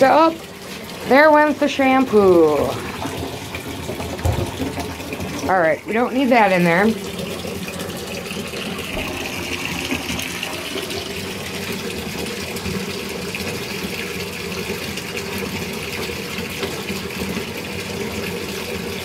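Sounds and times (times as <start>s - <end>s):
tap running into bath: 0.0s - 19.0s.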